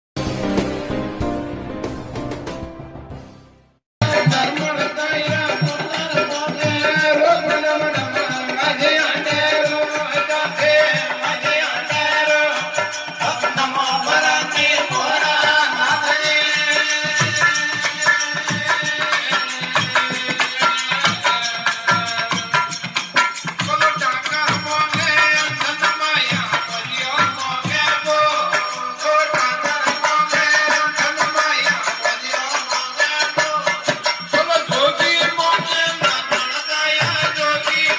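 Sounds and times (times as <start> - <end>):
regular drum beat: 0.2 - 3.4, 4.0 - 37.9
fast jingling: 4.0 - 37.9.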